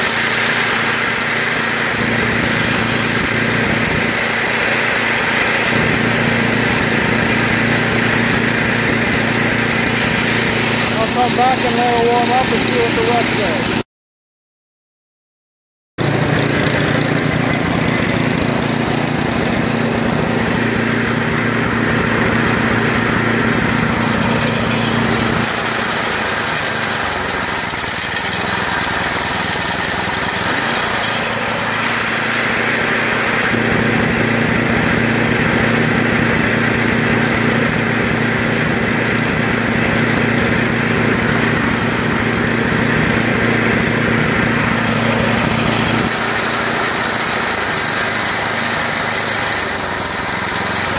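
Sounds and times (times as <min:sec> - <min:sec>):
snowblower engine idling: 0:00.0 - 0:13.8, 0:16.0 - 0:50.9.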